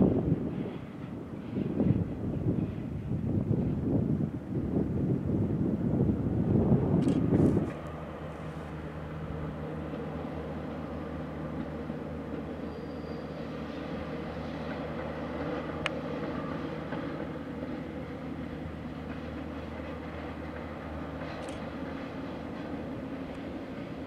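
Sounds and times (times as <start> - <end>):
distant electric locomotive humming: 0.0 - 24.0
rail noise: 0.0 - 24.0.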